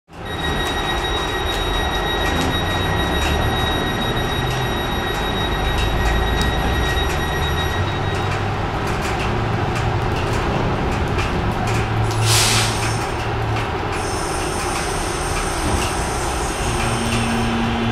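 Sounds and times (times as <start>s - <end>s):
rain ticking: 0.1s - 17.9s
train equipment low rumble: 0.1s - 17.9s.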